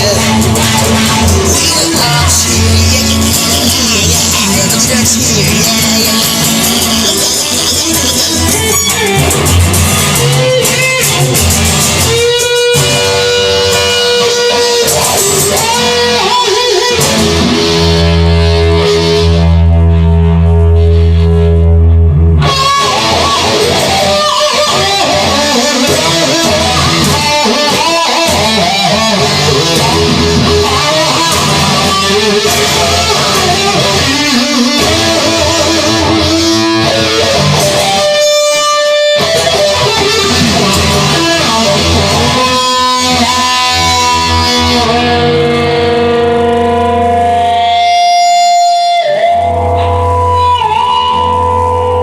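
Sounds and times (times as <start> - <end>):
electric guitar lead: 0.0 - 52.0.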